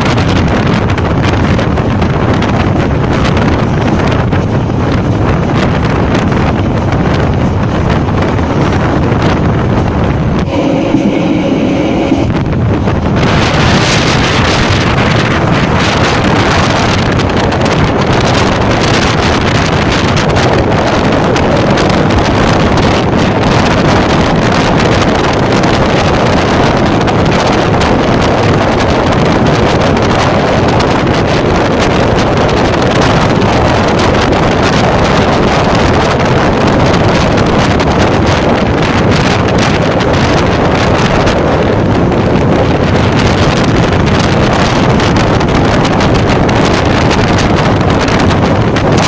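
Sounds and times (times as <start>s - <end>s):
moving train running noise: 0.0s - 49.0s
wind rushing over microphone: 0.0s - 49.0s.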